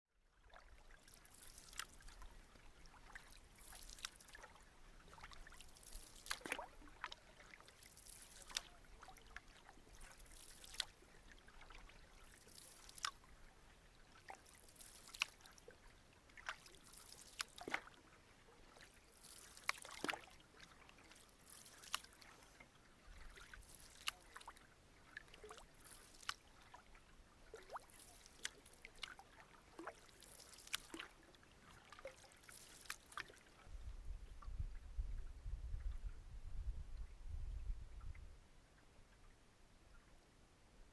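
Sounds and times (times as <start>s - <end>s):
canoe paddles splashing in water: 0.5s - 33.6s.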